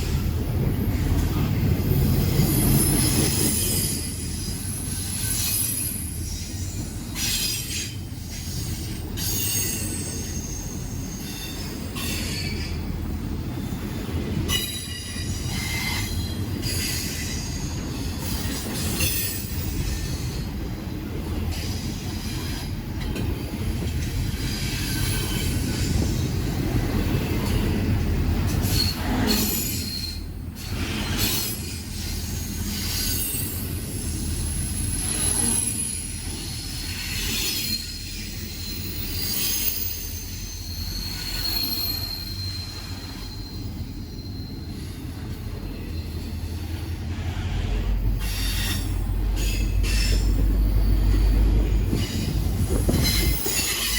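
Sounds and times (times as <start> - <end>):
freight train rumbling: 0.0 - 53.9
train wheels squealing on rails: 0.0 - 53.9.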